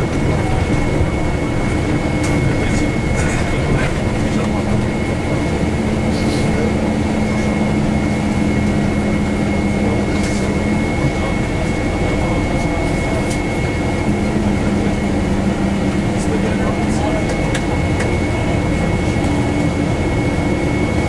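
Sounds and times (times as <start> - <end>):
bus engine and road rumble: 0.0 - 21.0
hum: 0.0 - 21.0.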